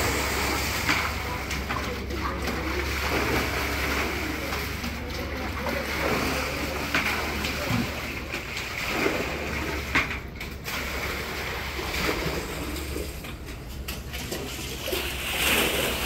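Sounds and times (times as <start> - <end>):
water sloshing in a bucket: 0.0 - 16.0.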